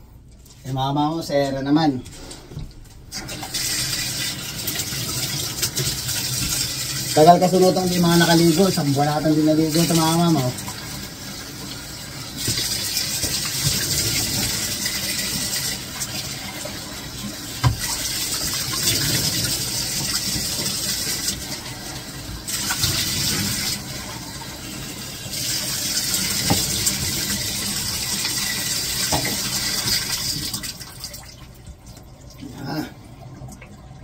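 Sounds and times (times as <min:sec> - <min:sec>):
water splashing in bathtub: 0:02.1 - 0:34.0.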